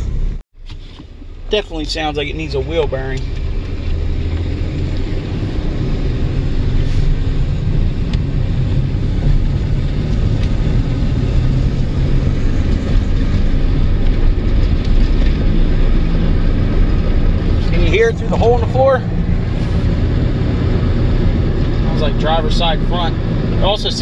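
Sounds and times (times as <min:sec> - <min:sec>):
road and drivetrain noise: 0:00.0 - 0:24.0.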